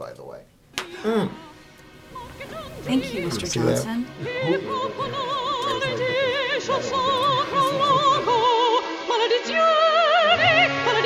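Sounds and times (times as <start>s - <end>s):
operatic singing with vibrato: 0.8s - 11.0s.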